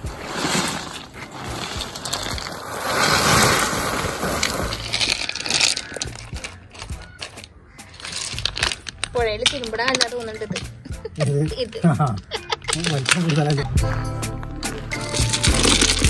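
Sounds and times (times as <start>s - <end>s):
stones grinding and clattering: 0.0s - 11.5s, 12.1s - 13.7s, 14.7s - 16.0s.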